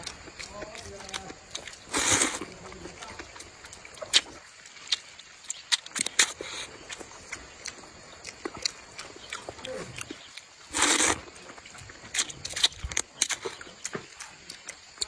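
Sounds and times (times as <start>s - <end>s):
chewing with mouth clicks: 0.0s - 15.0s
noodles slurped: 0.0s - 15.0s.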